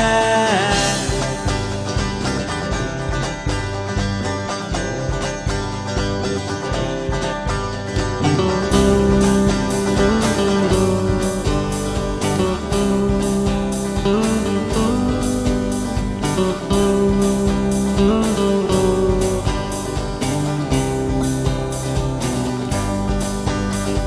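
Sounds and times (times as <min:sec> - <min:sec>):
guitar-led instrumental music: 0:00.0 - 0:24.0.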